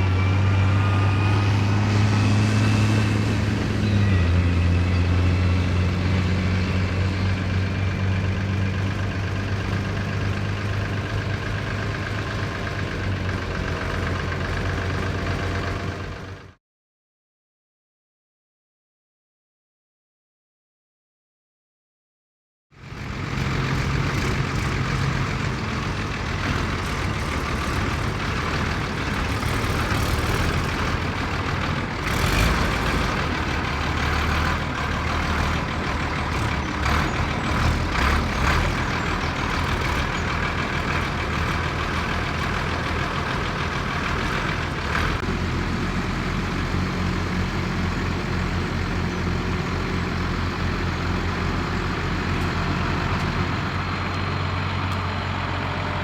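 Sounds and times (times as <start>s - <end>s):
heavy diesel engine running: 0.0s - 16.6s, 22.8s - 56.0s.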